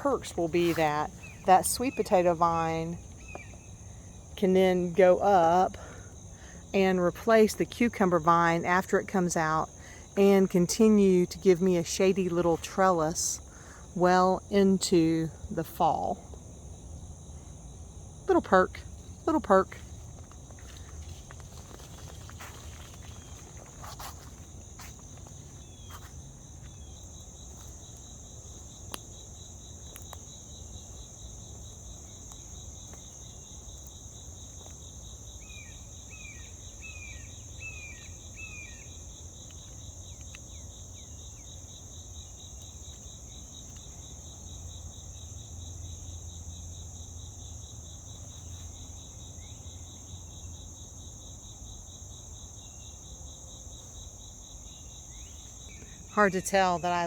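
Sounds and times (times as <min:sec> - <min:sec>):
insects trilling: 0:00.0 - 0:57.0
low insect hum: 0:00.0 - 0:57.0.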